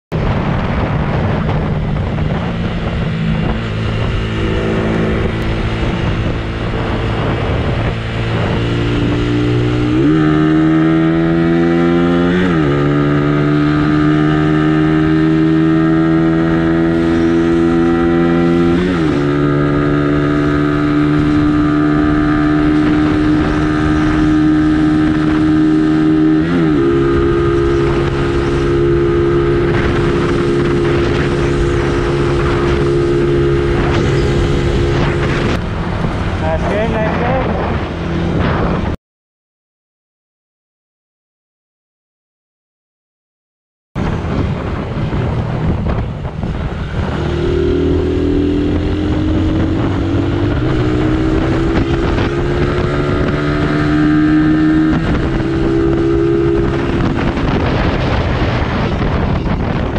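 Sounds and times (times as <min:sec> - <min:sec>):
motorcycle engine accelerating: 0:00.1 - 0:39.0, 0:44.0 - 0:59.9.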